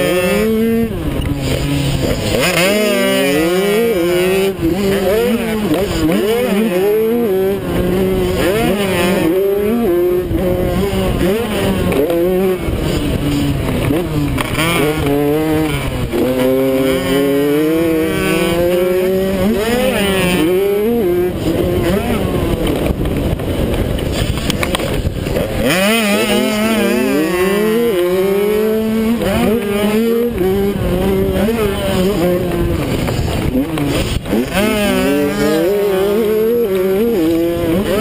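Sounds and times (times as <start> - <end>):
two-stroke engine revving: 0.0 - 38.0
wind rushing over camera: 0.0 - 38.0.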